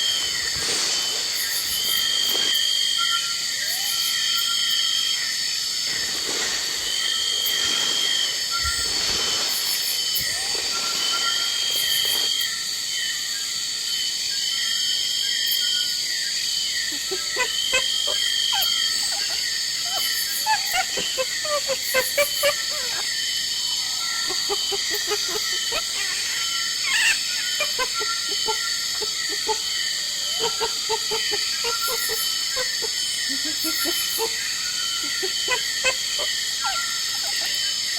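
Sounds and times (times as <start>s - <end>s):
insects buzzing: 0.0s - 37.9s.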